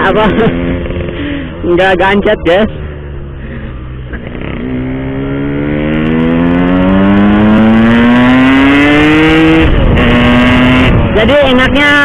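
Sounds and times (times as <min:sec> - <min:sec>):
two-stroke engine accelerating: 0:00.0 - 0:12.0.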